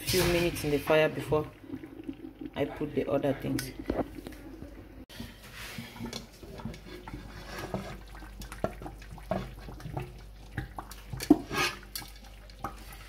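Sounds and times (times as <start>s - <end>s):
paste bubbling in a pot: 0.9s - 13.0s.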